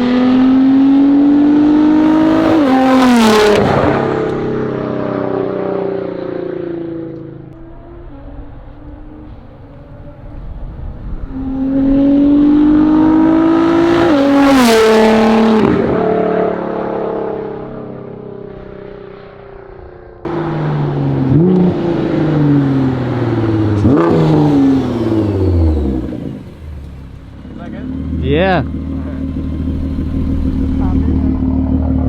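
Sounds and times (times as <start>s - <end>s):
car engine accelerating past: 0.0s - 32.0s.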